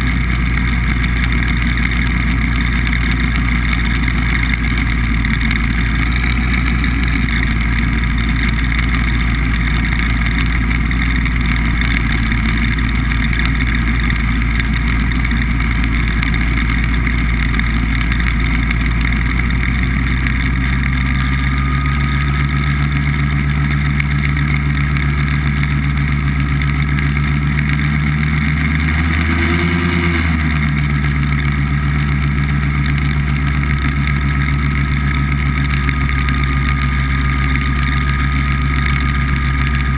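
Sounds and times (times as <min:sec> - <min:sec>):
hovercraft engine and fan running: 0:00.0 - 0:39.9.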